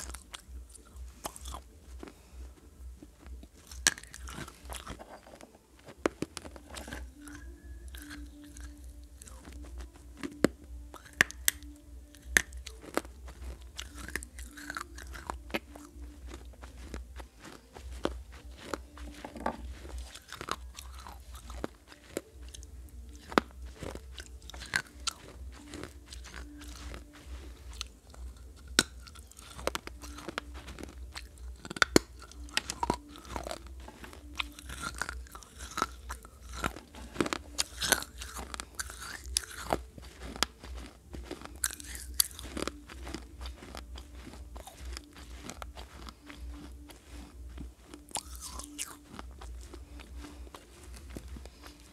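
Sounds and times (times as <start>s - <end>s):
clay pot pieces being chewed: 0.0s - 51.9s.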